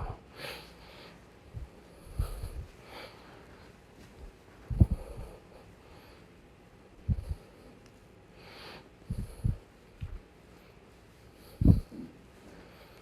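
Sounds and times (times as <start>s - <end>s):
person breathing: 0.0s - 13.0s.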